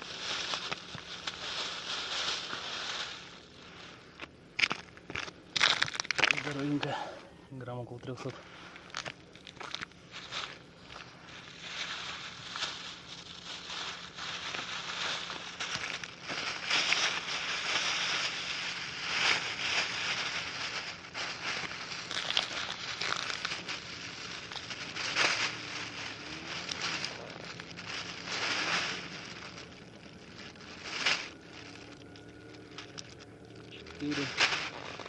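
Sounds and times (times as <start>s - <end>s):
rustling crinkling noise: 0.0s - 35.0s
sharp crackles: 0.0s - 35.0s.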